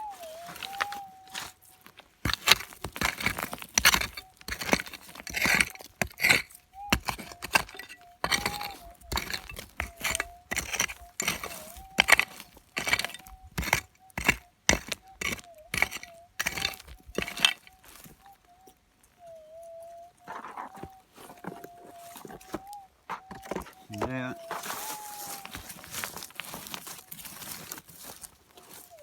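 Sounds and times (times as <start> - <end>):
rocks and gravel scraping: 0.0 - 18.8, 19.5 - 29.0.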